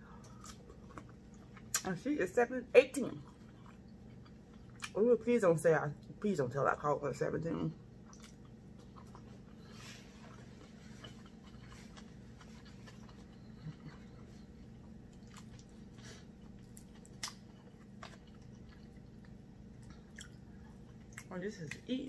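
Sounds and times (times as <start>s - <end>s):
low steady hum: 0.0s - 22.0s
chewing and mouth sounds: 0.1s - 2.0s, 3.0s - 5.0s, 7.8s - 22.0s.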